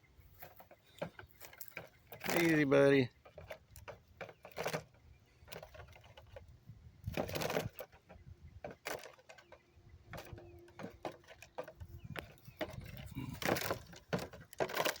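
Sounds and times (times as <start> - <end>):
rustling scuffle: 0.3 - 6.4, 7.1 - 15.0.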